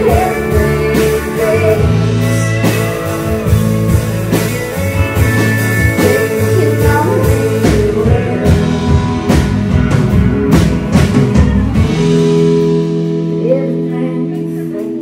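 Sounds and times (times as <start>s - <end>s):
drum kit with cymbal hits: 0.0s - 15.0s
electric guitar: 0.0s - 15.0s.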